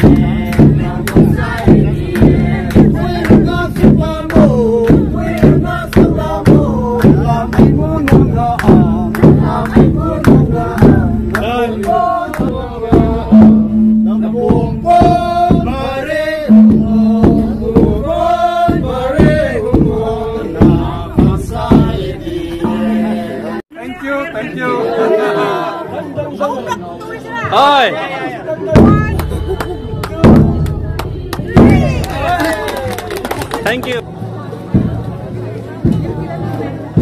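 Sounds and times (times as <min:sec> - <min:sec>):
drum beating: 0:00.0 - 0:23.6, 0:28.6 - 0:37.0
male voices chanting in unison: 0:00.0 - 0:32.9.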